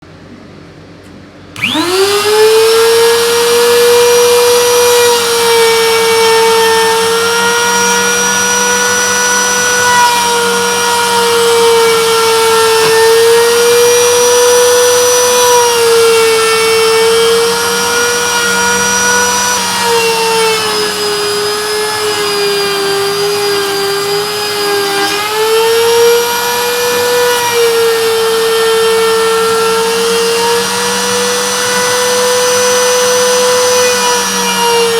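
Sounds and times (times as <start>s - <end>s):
router spindle whine milling wood: 1.6s - 34.9s.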